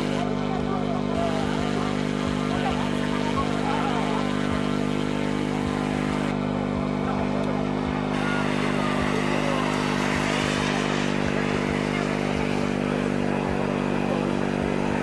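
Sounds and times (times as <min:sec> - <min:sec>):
engine-like drone: 0:00.0 - 0:15.0.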